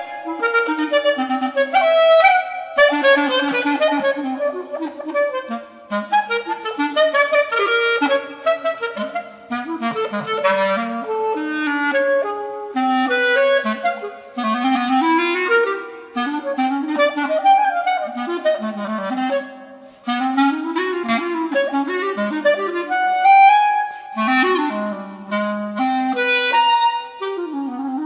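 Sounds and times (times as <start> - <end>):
solo clarinet playing: 0.0 - 28.0.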